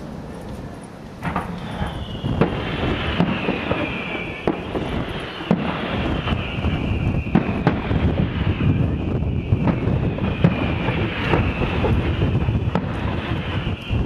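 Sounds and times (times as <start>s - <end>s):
dense fireworks rumble: 0.0s - 14.0s
falling hiss: 0.0s - 14.0s
firework shells bursting: 1.2s - 14.0s.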